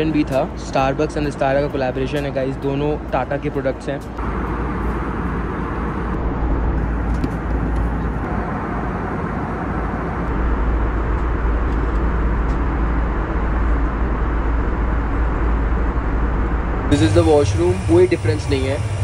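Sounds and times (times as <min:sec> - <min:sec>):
airliner cabin engine noise: 0:00.0 - 0:19.0.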